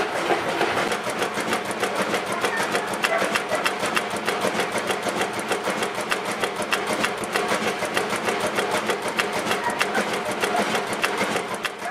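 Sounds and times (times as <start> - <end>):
diesel engine clattering: 0.0 - 11.9.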